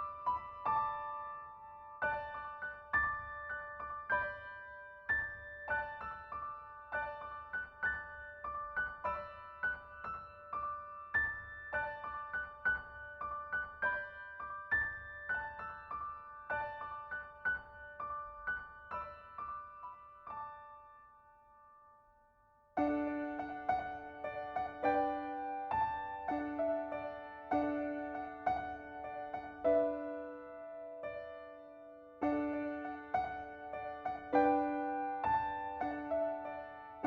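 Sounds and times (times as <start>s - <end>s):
soft piano music: 0.0s - 37.0s.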